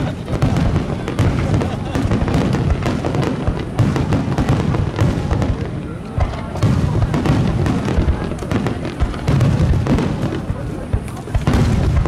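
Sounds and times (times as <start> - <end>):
fireworks booming and cracking: 0.0 - 12.0.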